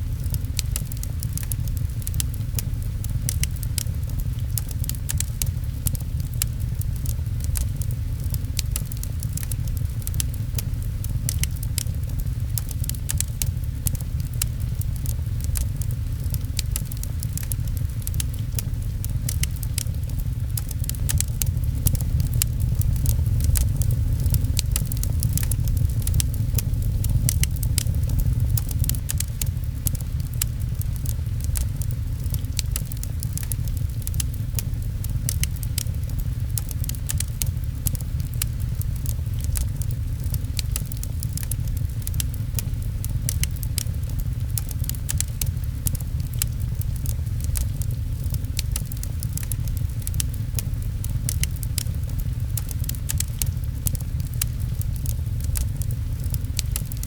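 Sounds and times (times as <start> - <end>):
fireplace crackling: 0.0 - 57.0
low rumble: 0.0 - 57.0
rain pattering: 0.0 - 57.0.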